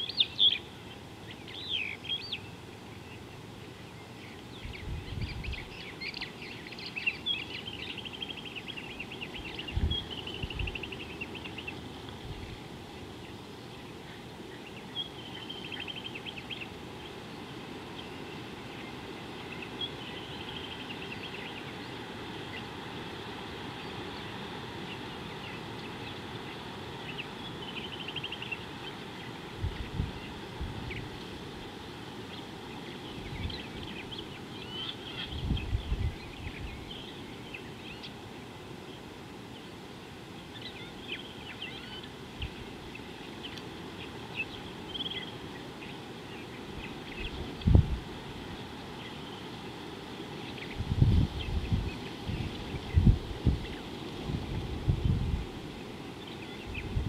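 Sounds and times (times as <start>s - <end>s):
small birds chirping and trilling: 0.0s - 57.0s
steady background hiss: 0.0s - 57.0s.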